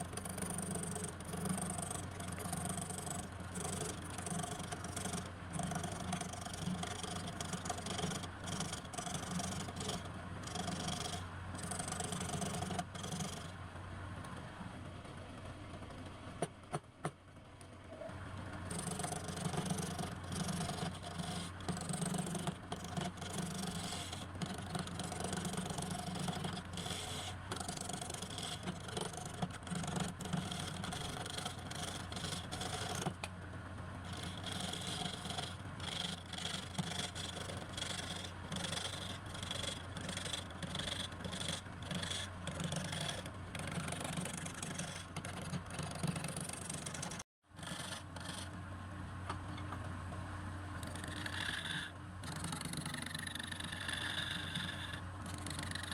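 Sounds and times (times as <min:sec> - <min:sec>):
tool scraping spinning wood: 0:00.0 - 0:13.6, 0:18.1 - 0:48.6, 0:50.8 - 0:55.9.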